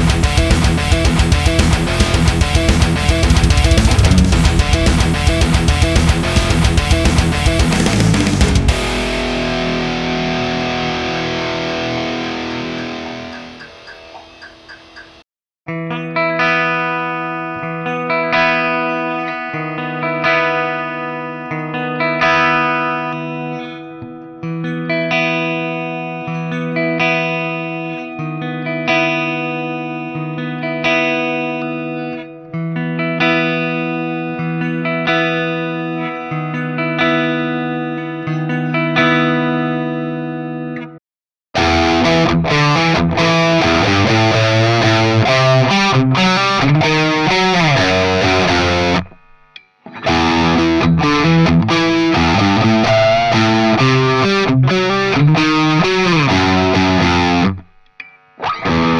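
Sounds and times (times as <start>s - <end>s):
clean electric guitar chords: 0.0s - 15.0s, 15.7s - 40.9s, 41.6s - 49.2s, 49.9s - 57.6s, 58.4s - 58.9s
distorted electric guitar riffing: 0.0s - 40.8s, 41.6s - 58.9s.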